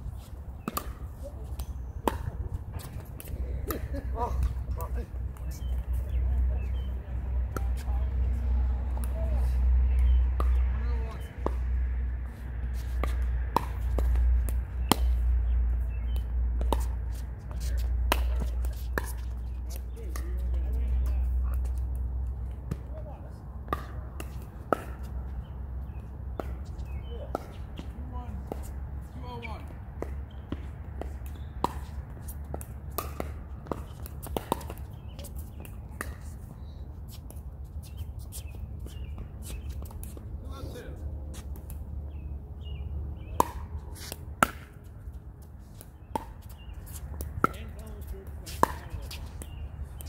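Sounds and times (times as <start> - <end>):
steady low rumble: 0.0 - 47.5.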